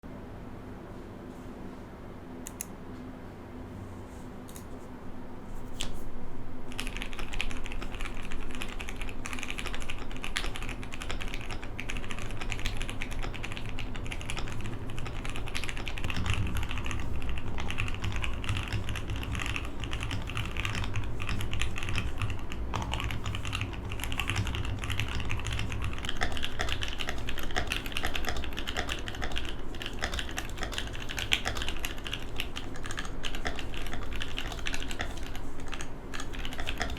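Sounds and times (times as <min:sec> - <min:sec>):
mechanical keyboard typing: 0:06.7 - 0:36.9.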